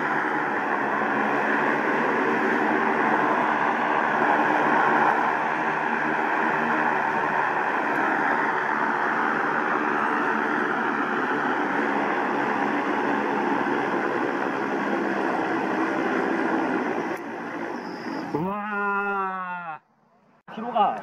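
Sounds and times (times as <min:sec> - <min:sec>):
drone propellers buzzing: 0:00.0 - 0:19.2.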